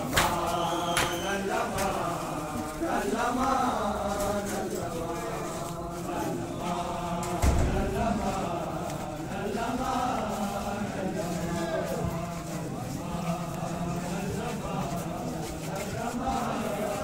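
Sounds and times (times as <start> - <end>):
men chanting a lament: 0.0 - 17.0.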